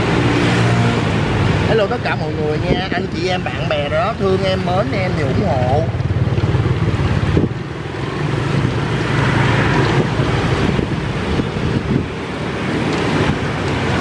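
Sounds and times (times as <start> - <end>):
street traffic: 0.0 - 14.0
wind buffeting microphone: 0.0 - 14.0.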